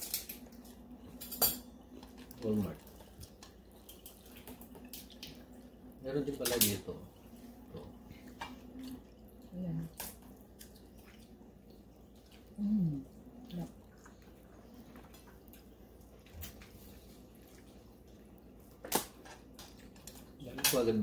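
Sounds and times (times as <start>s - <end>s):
wet clicks of eating: 1.9s - 7.0s, 7.7s - 20.9s.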